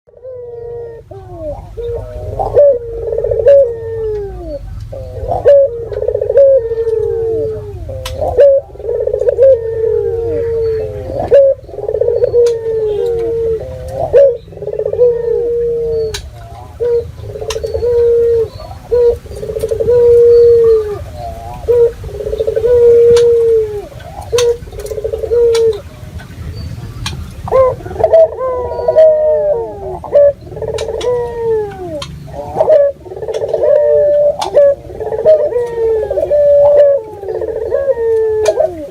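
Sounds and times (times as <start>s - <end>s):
doves cooing: 0.1s - 38.9s.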